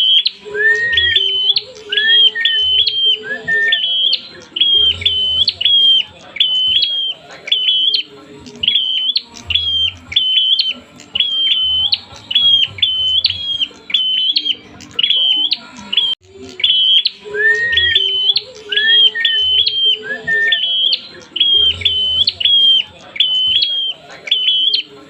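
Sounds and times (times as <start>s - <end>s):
lower rising bird notes: 0.0s - 24.9s
bird calling agitatedly: 0.0s - 25.0s.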